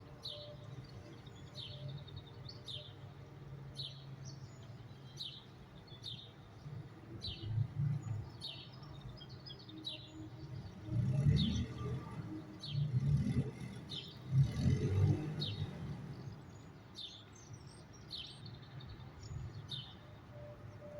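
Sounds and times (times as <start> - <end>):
small birds chirping: 0.1 - 20.2.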